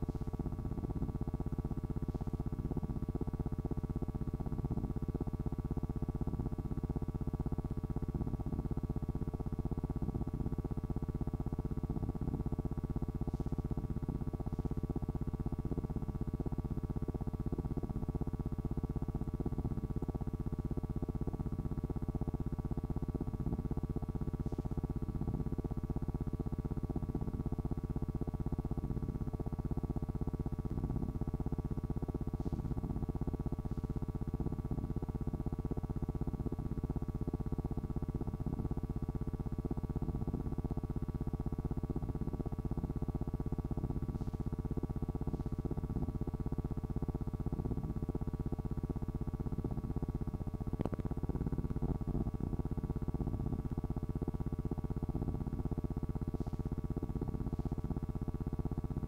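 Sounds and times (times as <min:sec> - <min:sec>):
low buzzing hum: 0:00.0 - 0:59.0.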